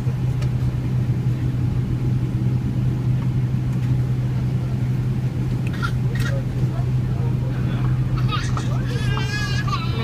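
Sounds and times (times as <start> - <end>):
airplane cabin hum: 0.0 - 10.0.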